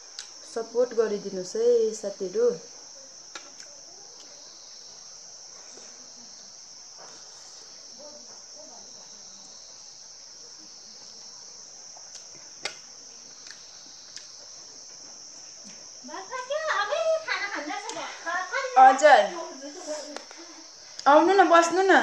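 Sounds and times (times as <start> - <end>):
insect trill: 0.0 - 22.0.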